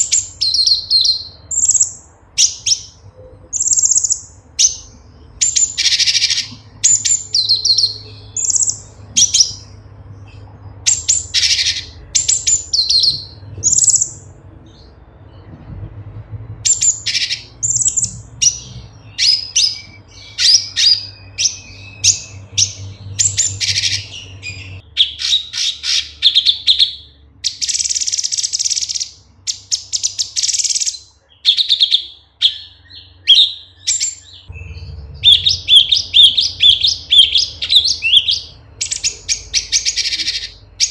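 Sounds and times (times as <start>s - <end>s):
bird chirping and whistling: 0.0s - 14.9s, 16.6s - 40.9s.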